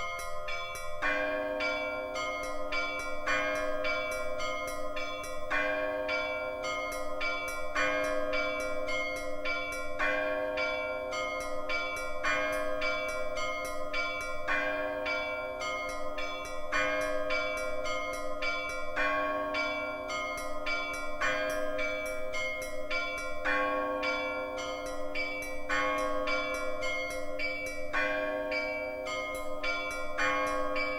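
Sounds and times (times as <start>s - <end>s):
deep church bells humming: 0.0s - 30.9s.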